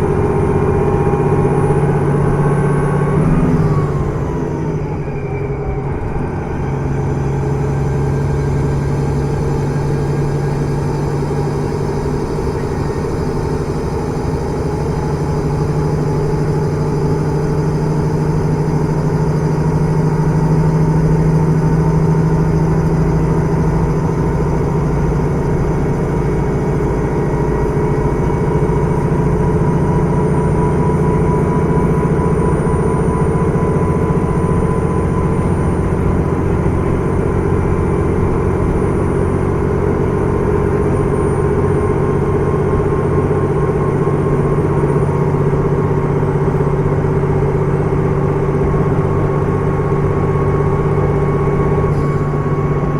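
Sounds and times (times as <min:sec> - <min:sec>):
diesel engine drone: 0:00.0 - 0:52.9
faint rising whine: 0:00.0 - 0:52.9.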